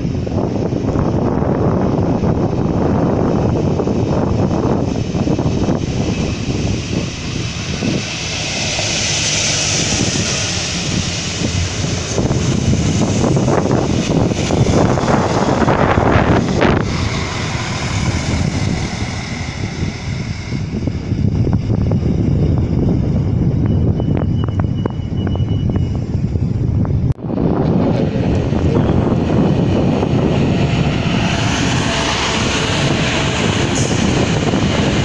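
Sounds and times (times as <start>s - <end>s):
train running past: 0.0s - 35.0s
wind buffeting microphone: 0.0s - 35.0s.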